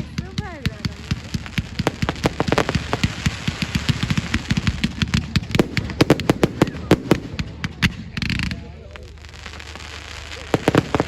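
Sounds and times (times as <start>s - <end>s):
fireworks crackling bangs: 0.0s - 11.0s.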